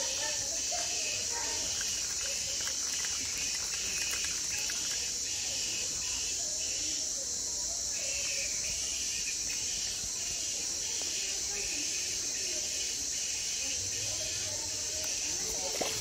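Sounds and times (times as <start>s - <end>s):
high-pitched insect buzz: 0.0s - 16.0s
lower pulsing insect trill: 0.0s - 16.0s.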